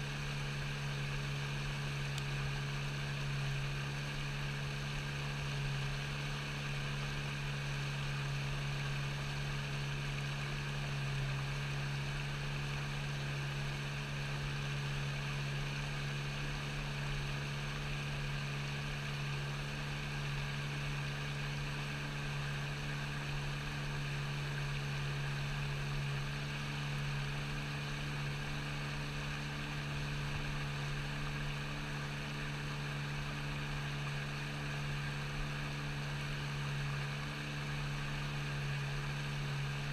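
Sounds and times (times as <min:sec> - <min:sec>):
low mechanical drone: 0:00.0 - 0:39.9.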